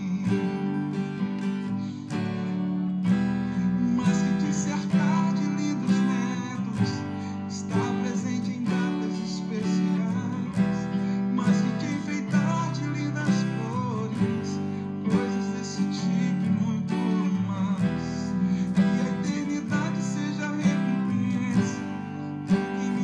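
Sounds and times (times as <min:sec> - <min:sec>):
acoustic guitar strummed chords: 0:00.0 - 0:23.0.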